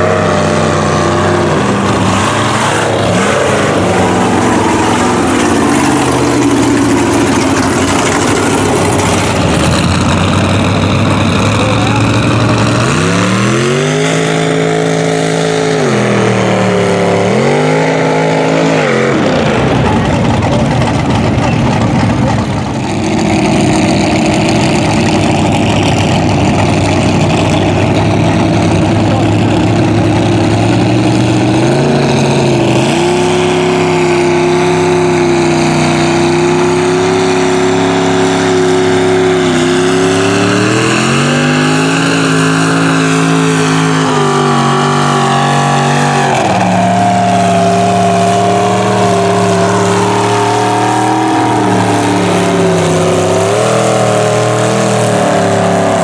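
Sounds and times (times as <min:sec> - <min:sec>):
truck engine running hard: 0:00.0 - 0:56.0.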